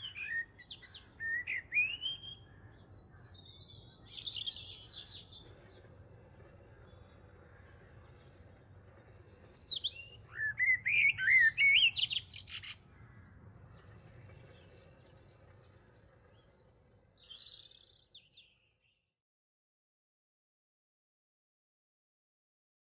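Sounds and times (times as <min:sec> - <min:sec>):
faint bird chirps: 0:00.0 - 0:19.0
songbird singing: 0:00.0 - 0:19.0.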